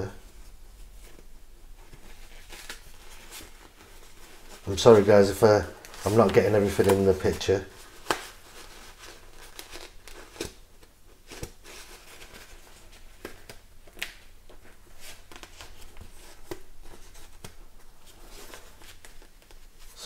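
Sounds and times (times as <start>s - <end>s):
fabric rubbing and rustling: 0.0s - 20.0s.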